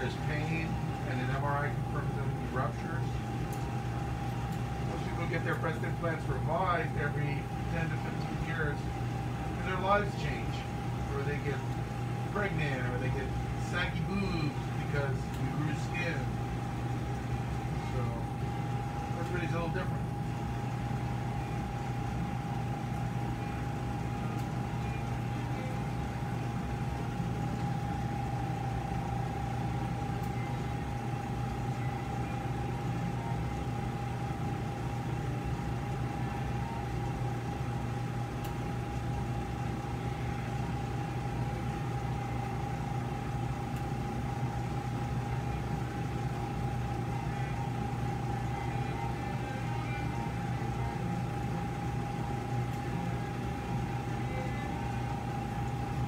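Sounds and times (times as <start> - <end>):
constant high whine: 0.0 - 56.0
equipment hum: 0.0 - 56.0.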